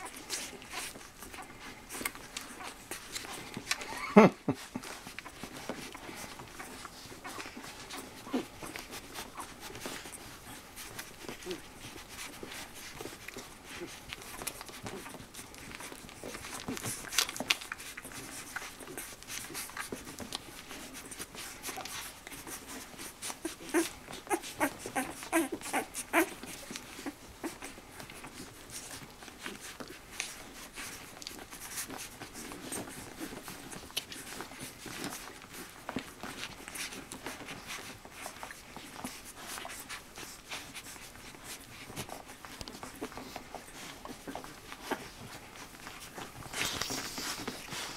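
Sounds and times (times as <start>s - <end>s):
puppy squeaks and whimpers: 0.0s - 4.0s, 4.8s - 47.9s
puppies suckling: 0.0s - 47.9s.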